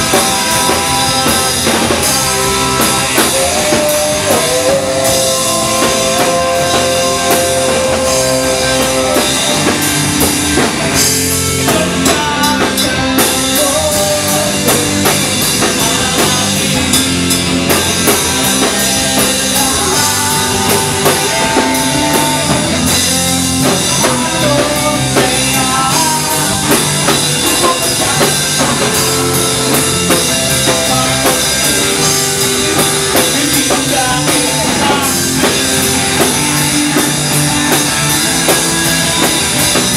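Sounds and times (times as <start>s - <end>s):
person singing into microphone: 0.0s - 10.0s, 11.4s - 36.6s
drum kit: 0.0s - 39.9s
electric bass: 0.0s - 39.9s
electric guitars: 0.0s - 39.9s.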